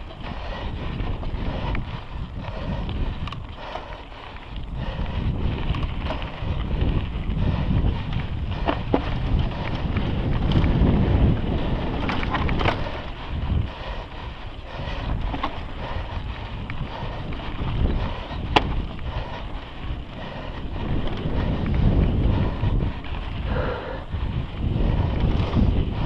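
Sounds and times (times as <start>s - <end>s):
bike rattling over bumps: 0.0s - 26.0s
wind buffeting microphone: 0.0s - 26.0s.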